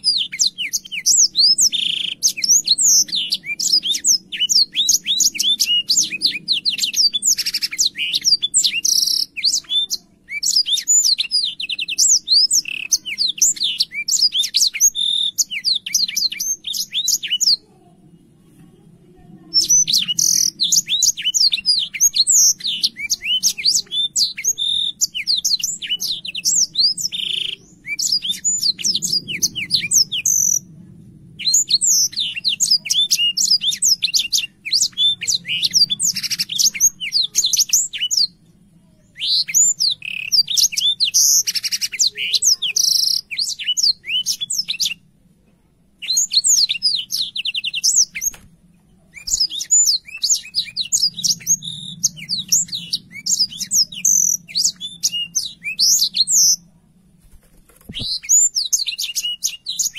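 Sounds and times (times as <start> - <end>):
canary singing: 0.0 - 17.6, 19.4 - 30.7, 31.3 - 45.1, 46.0 - 48.4, 49.0 - 56.7, 57.7 - 59.9.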